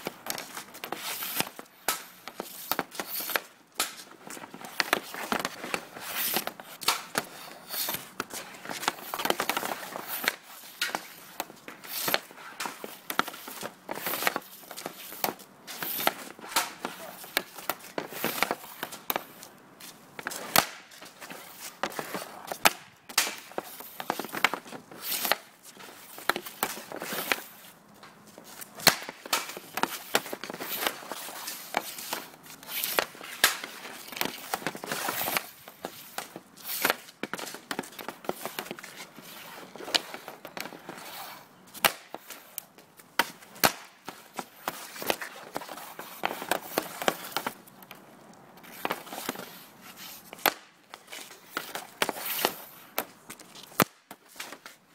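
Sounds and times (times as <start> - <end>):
puck clattering on pad: 0.0 - 19.5, 20.1 - 41.1, 41.8 - 48.0, 50.3 - 54.8
hockey sticks striking pucks: 0.0 - 54.8.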